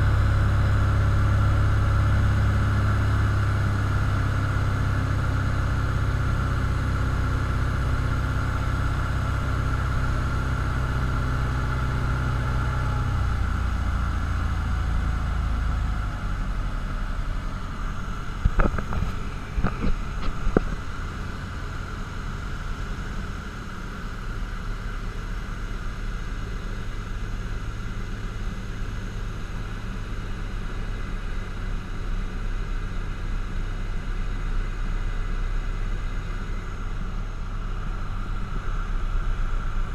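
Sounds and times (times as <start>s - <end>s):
airplane engine drone in cabin: 0.0s - 39.9s.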